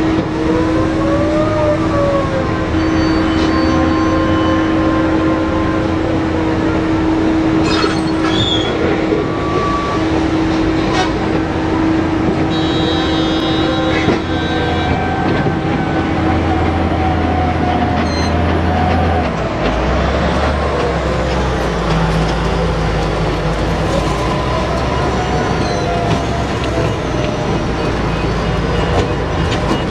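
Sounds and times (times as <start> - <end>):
dump truck engine rumbling: 0.0 - 29.9.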